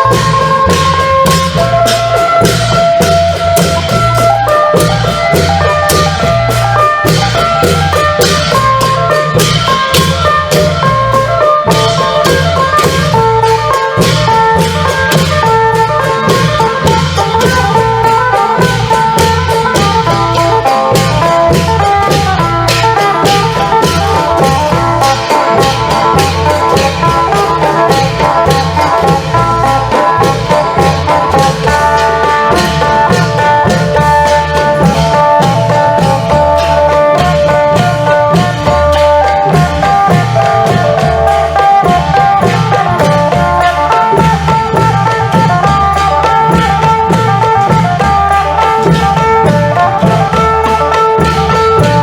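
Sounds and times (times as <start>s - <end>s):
drum and cymbal rhythm: 0.0s - 52.0s.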